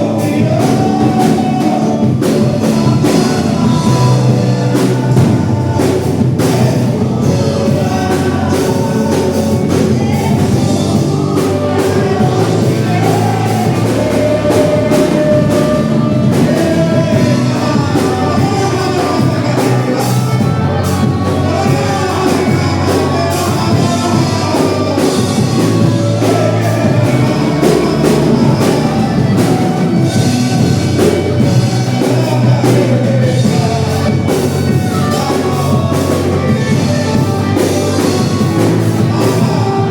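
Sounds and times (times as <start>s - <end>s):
drums: 0.0s - 39.9s
singing: 0.0s - 39.9s
worship band playing: 0.0s - 39.9s.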